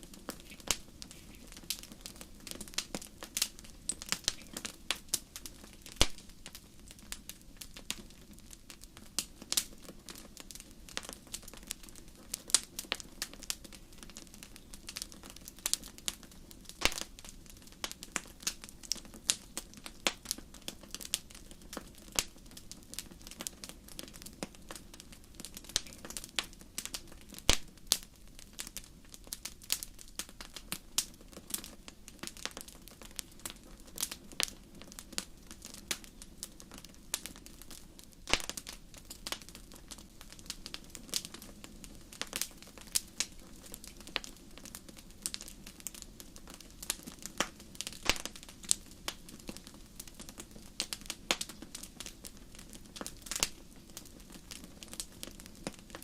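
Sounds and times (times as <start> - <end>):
campfire crackling and popping: 0.0 - 56.0
low hiss of flame: 0.0 - 56.0.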